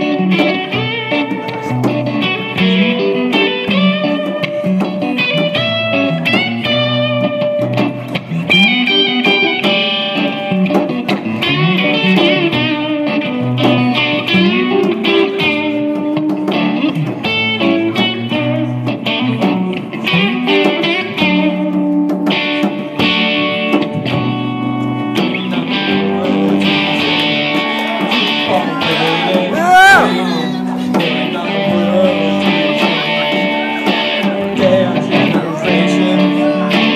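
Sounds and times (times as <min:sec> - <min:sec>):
electric guitar lead lines: 0:00.0 - 0:36.9
live band instrumental music: 0:00.0 - 0:36.9.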